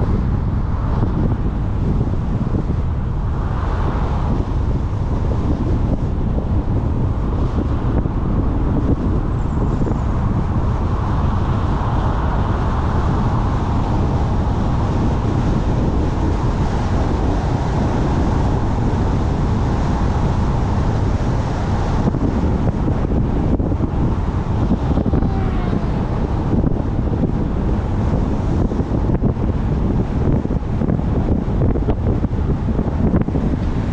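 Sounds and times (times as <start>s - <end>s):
car tyre and road noise: 0.0s - 33.9s
wind buffeting microphone: 0.0s - 33.9s.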